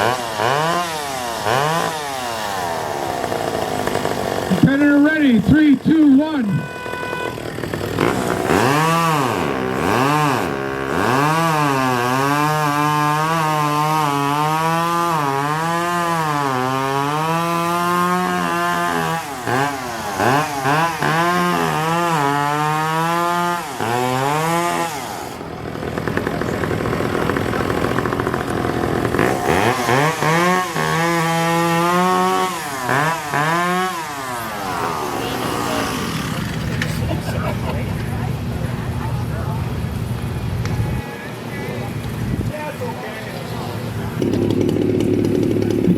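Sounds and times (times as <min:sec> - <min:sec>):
chainsaw cutting log: 0:00.0 - 0:37.3, 0:43.5 - 0:45.9.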